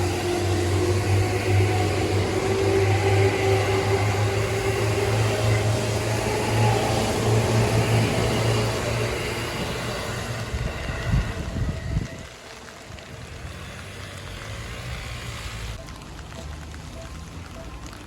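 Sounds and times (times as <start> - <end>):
electric train humming past: 0.0 - 17.9.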